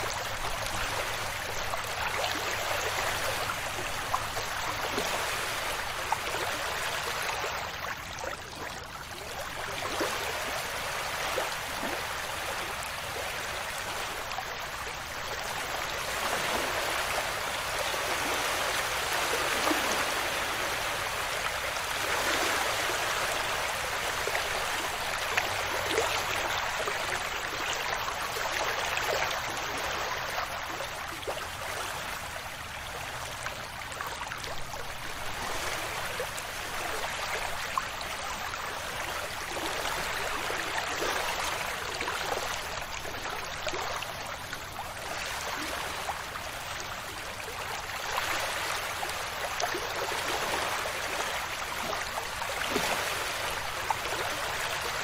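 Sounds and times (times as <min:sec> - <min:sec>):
small waves washing on beach: 0:00.0 - 0:55.0.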